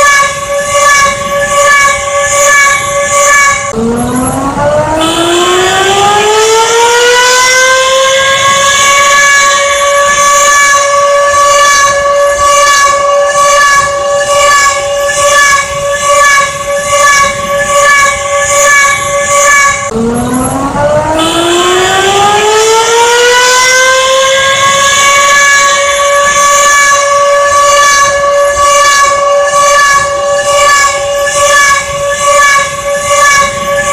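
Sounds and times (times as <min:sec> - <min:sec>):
warning siren wailing: 0:00.0 - 0:33.9.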